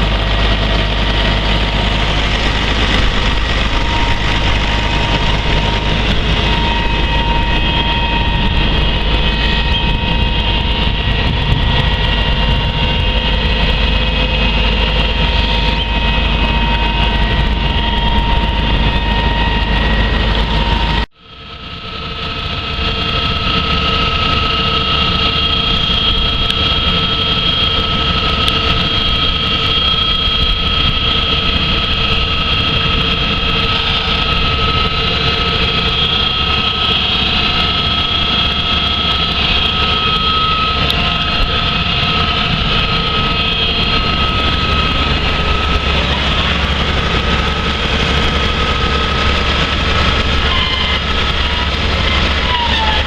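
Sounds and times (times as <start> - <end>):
high whine: 0.0 - 53.0
tractor diesel engine running: 0.0 - 53.0.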